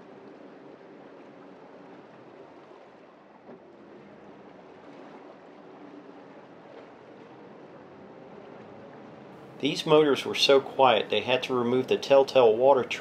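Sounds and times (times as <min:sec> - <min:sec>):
faint low engine hum: 0:00.0 - 0:13.0
water lapping at hull: 0:00.0 - 0:13.0.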